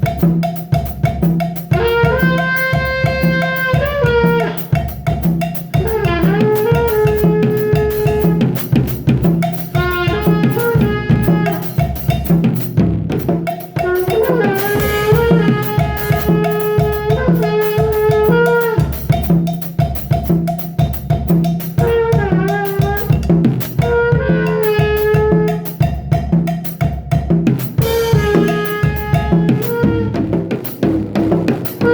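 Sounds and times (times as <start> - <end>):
drum kit beat: 0.0 - 31.9.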